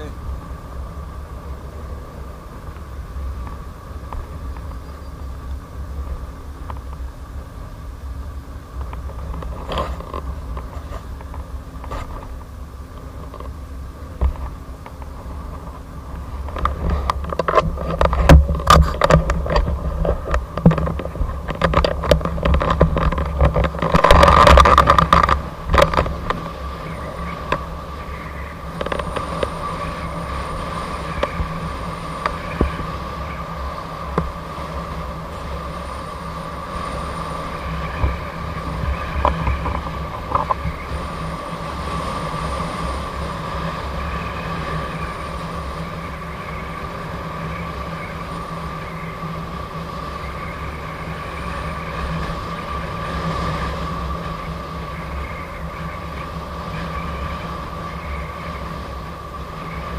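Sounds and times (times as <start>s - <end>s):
road rumble: 0.0s - 59.9s
steady high whine: 0.0s - 59.9s
wind buffeting microphone: 0.0s - 59.9s.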